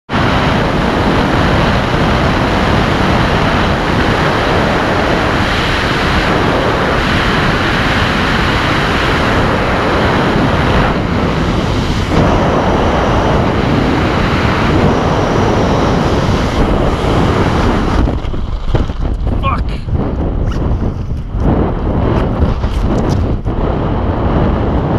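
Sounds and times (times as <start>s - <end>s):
wind buffeting microphone: 0.1s - 24.9s.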